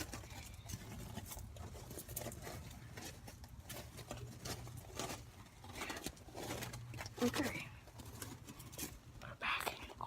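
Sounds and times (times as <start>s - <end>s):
rustling of garden plants: 0.0s - 10.0s.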